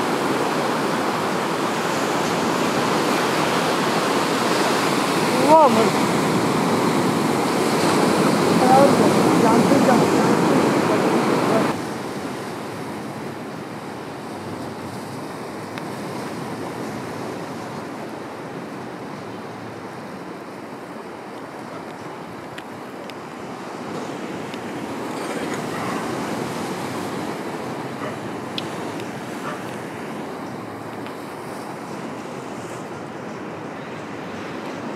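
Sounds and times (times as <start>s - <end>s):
waves breaking on a beach: 0.0s - 34.9s
wind on microphone: 0.0s - 34.9s.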